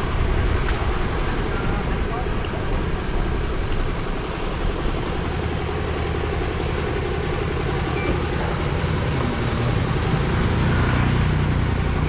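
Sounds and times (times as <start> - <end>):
large engine idling: 0.4 - 12.0.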